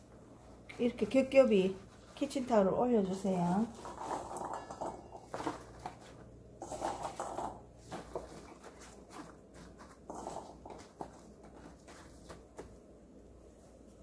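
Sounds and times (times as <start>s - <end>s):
paper towel rustling: 0.0s - 14.0s.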